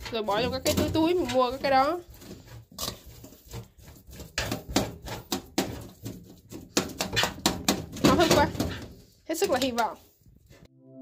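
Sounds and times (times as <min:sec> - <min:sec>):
knocks and scrapes on fish flesh: 0:00.6 - 0:10.1.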